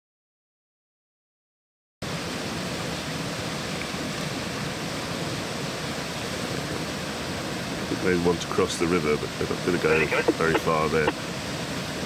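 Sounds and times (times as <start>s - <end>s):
fast-flowing river rushing: 2.1s - 12.0s.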